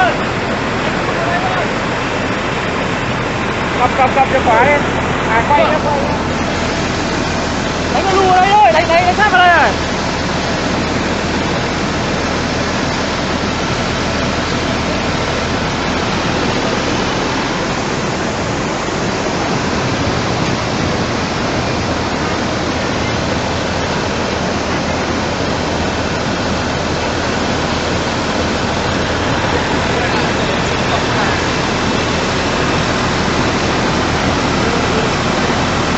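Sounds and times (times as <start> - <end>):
floodwater rushing: 0.0 - 35.9.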